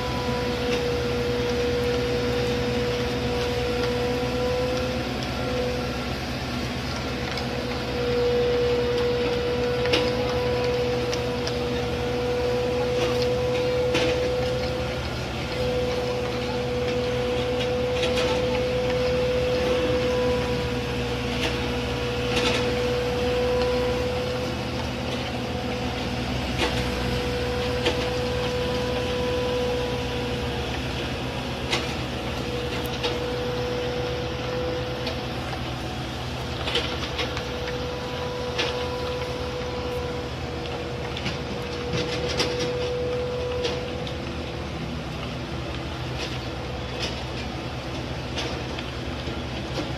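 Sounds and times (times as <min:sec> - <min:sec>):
high level whine: 0:00.0 - 0:49.9
machinery engine hum: 0:00.0 - 0:49.9.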